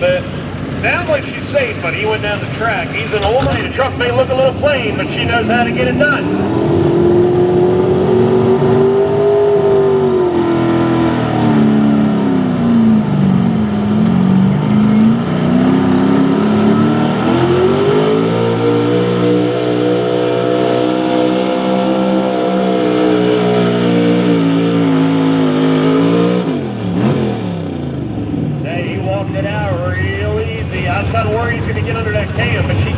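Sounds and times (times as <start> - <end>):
truck engine revving hard: 0.0 - 28.6.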